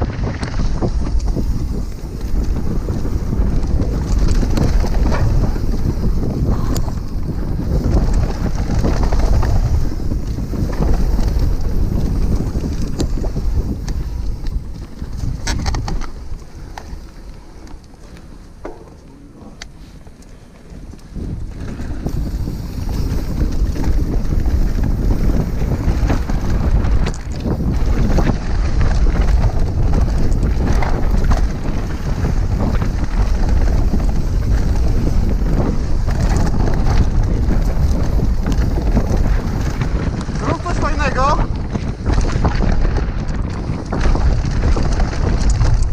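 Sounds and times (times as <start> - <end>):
bike knocks and rattles: 0.0 - 45.9
tyres rolling over dirt: 0.0 - 45.9
wind buffeting camera: 0.0 - 45.9.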